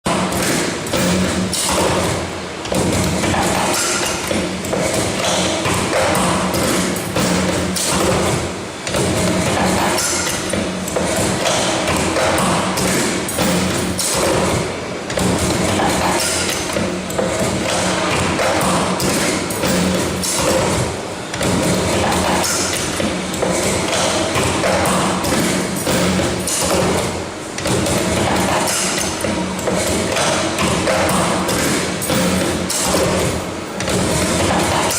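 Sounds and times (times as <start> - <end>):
machine thuds and metallic clatter: 0.1 - 34.9.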